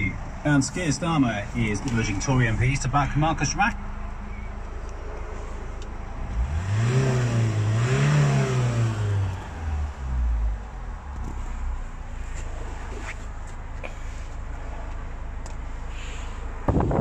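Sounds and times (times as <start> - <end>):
diesel engine revving: 0.0 - 16.8.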